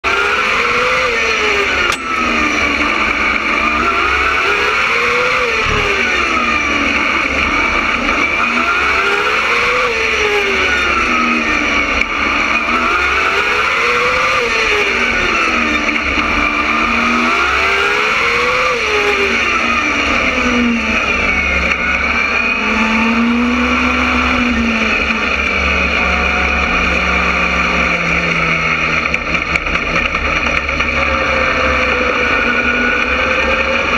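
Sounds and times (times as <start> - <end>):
race car engine revving: 0.0 - 33.9.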